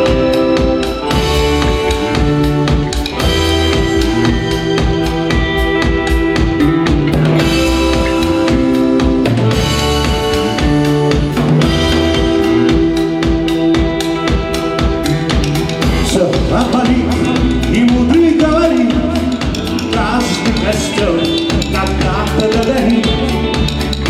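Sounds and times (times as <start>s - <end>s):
drum kit beat: 0.0s - 24.0s
rock band playing: 0.0s - 24.0s.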